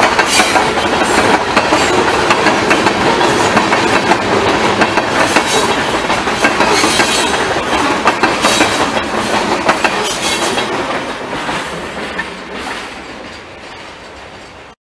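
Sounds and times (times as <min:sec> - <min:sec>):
train wheels clacking on rail joints: 0:00.0 - 0:14.8.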